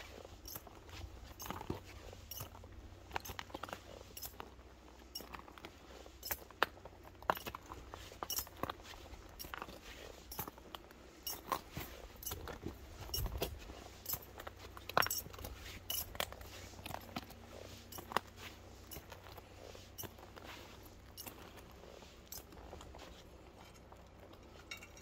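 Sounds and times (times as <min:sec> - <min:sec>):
footsteps crunching on snow: 0:00.0 - 0:23.6
light clicks and clinks: 0:00.2 - 0:25.0.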